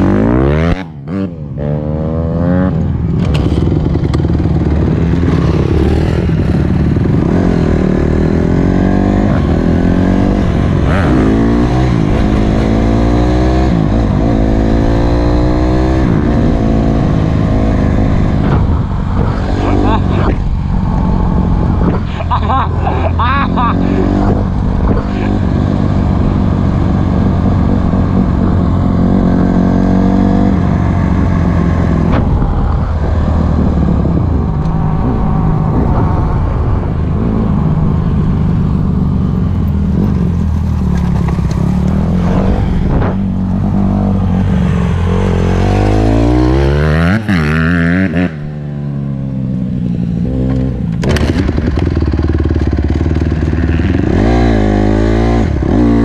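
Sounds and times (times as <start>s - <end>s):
dirt bike engine revving: 0.0s - 34.2s, 39.9s - 48.6s, 50.2s - 56.0s.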